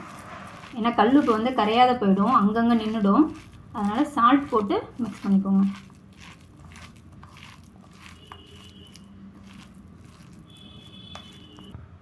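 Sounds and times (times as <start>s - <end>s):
hands mixing moist dough: 0.0s - 11.8s.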